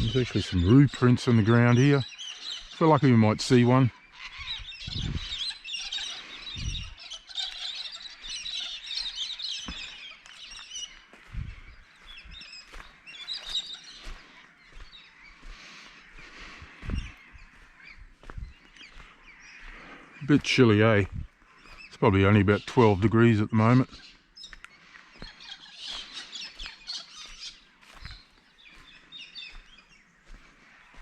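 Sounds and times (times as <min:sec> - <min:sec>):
birds chattering and calling: 0:00.0 - 0:31.0.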